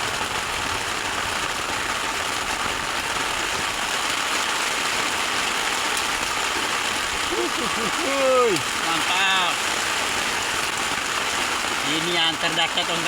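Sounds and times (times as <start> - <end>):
heavy rain on shelter: 0.0 - 13.0.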